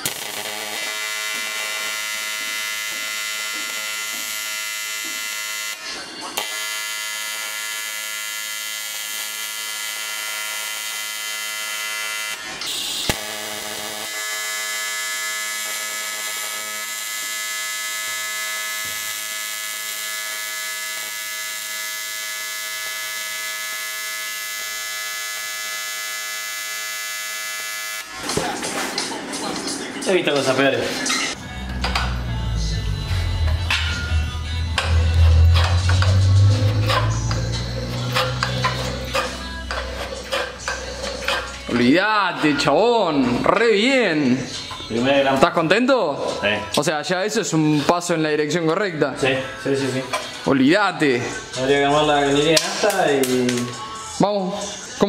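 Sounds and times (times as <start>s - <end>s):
welding arc buzzing: 0.0s - 45.9s.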